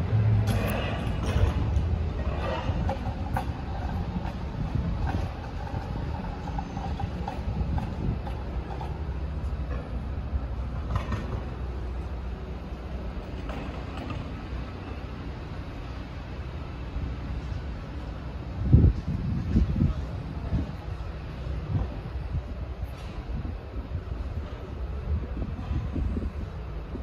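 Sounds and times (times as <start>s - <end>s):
rumble of passing vehicles: 0.0s - 27.0s.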